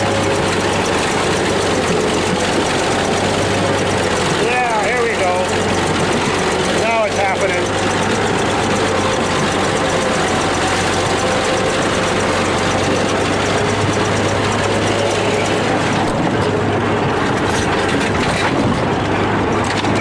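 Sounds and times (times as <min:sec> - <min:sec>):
bulldozer diesel engine: 0:00.0 - 0:20.0
metallic clatter of steel tracks: 0:00.0 - 0:20.0.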